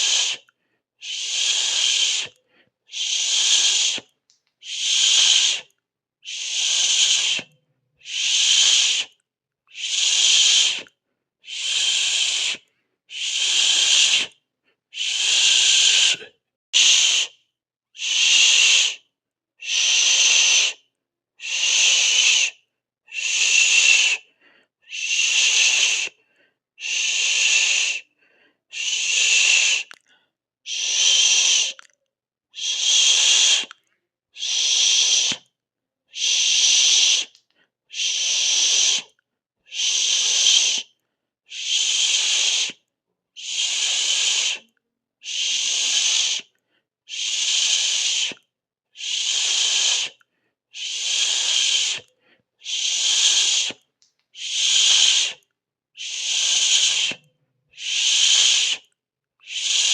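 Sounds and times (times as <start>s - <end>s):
person hissing through teeth: 0.0s - 17.4s, 18.0s - 19.0s, 19.6s - 26.2s, 26.8s - 28.1s, 28.7s - 30.0s, 30.7s - 31.9s, 32.6s - 33.8s, 34.4s - 35.5s, 36.1s - 40.9s, 41.5s - 42.8s, 43.4s - 46.5s, 47.1s - 55.4s, 56.0s - 59.9s.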